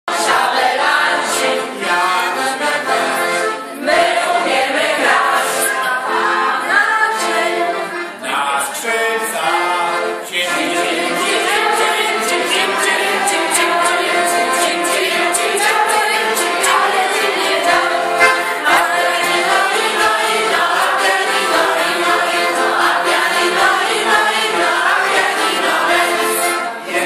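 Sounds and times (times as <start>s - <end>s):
group singing unaccompanied: 0.1s - 27.0s.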